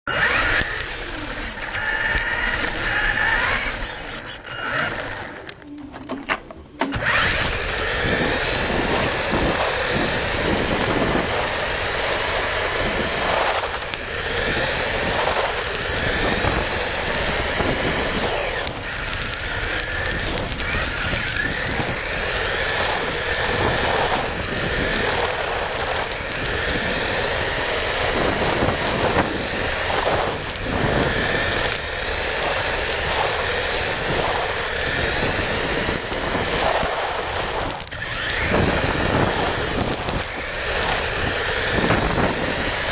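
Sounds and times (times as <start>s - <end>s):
small wheels rattling on paving: 0.1s - 42.9s
toy car motor whining: 0.1s - 42.9s.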